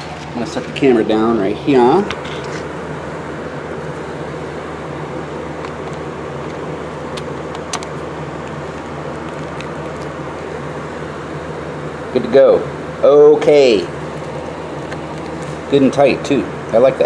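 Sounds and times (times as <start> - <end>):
mechanical hum with low drone: 0.0 - 17.0.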